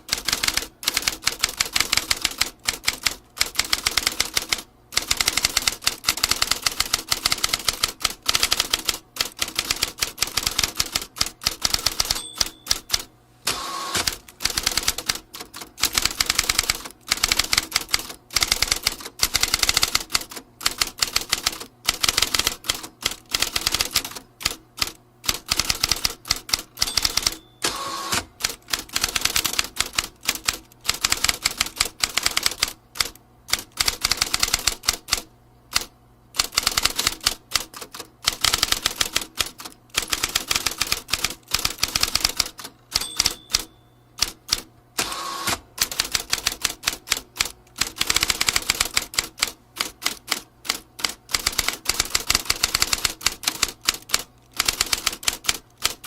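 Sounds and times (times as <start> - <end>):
typewriter keys clacking: 0.0 - 13.1, 14.0 - 27.7, 28.4 - 44.7, 45.8 - 56.0.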